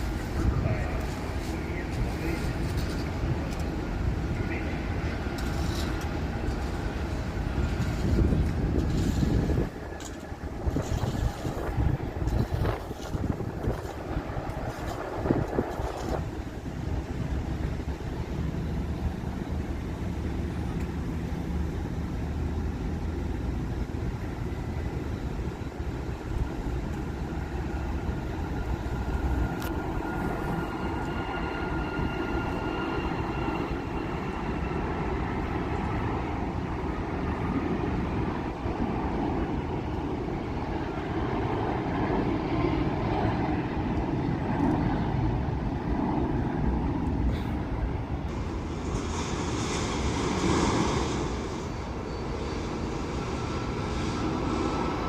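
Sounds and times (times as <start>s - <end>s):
faint engine whine: 0.0s - 55.0s
jet engines rumbling: 0.0s - 55.0s.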